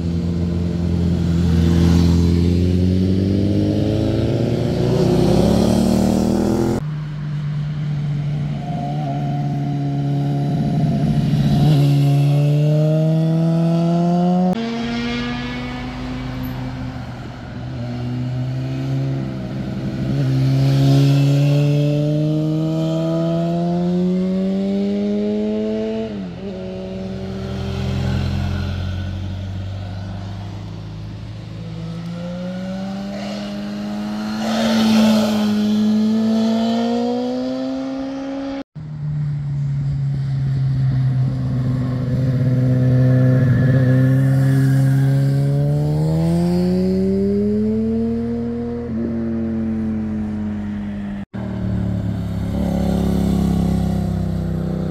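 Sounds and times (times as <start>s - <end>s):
motorcycle engines accelerating: 0.0s - 6.8s, 8.3s - 38.7s, 39.3s - 54.9s.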